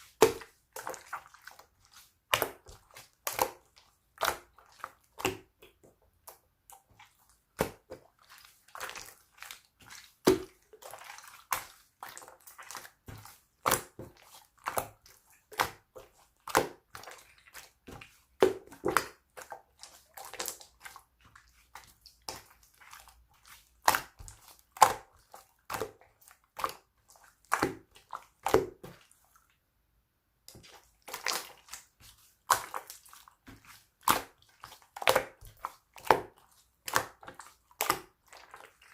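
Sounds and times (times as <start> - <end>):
slime squelching by hand: 0.0 - 29.8, 30.4 - 38.9.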